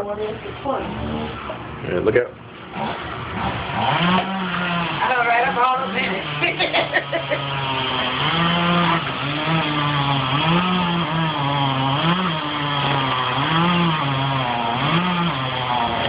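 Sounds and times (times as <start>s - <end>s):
chainsaw cutting wood: 2.6s - 16.0s.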